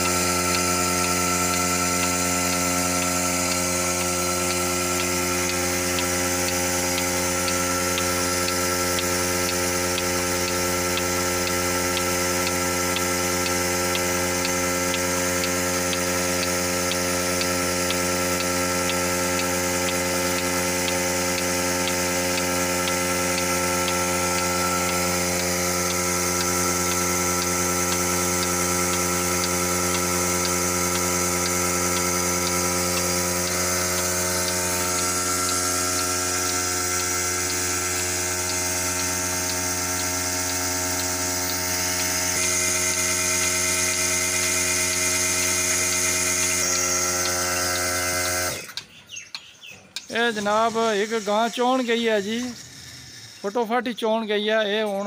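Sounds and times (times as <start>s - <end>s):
faint regular ticking: 0.0s - 42.4s, 49.3s - 55.0s
milking machine humming: 0.0s - 55.0s.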